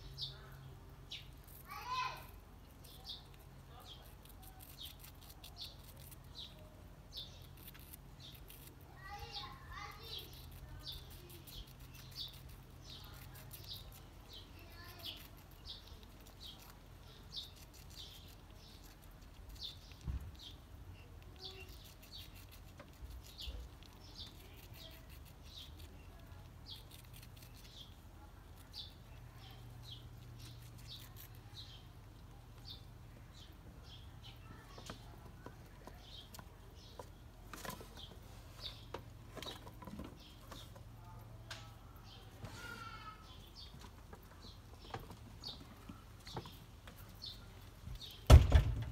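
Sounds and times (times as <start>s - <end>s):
small bird chirping: 0.0s - 48.9s.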